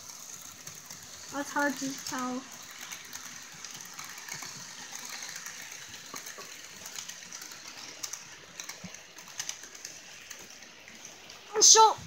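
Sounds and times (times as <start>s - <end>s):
wheel clicks: 0.0s - 11.8s
model train cars rolling on track: 0.0s - 12.0s.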